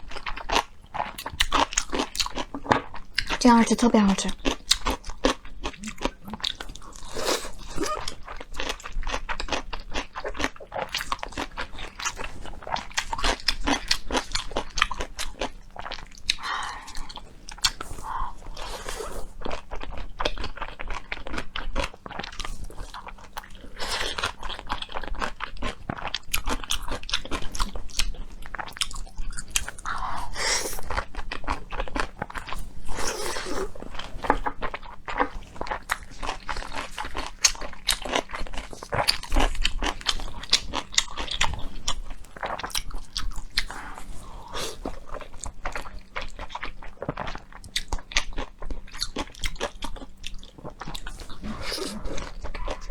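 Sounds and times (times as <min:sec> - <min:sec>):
crunchy chewing: 0:00.0 - 0:03.4, 0:04.3 - 0:52.9.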